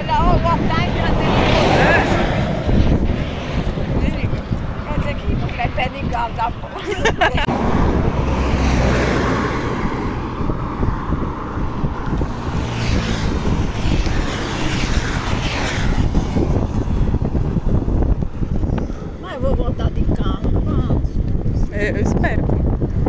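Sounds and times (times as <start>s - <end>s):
highway traffic passing: 0.0s - 23.0s
motorcycle passing: 0.0s - 23.0s
wind on microphone: 0.0s - 23.0s.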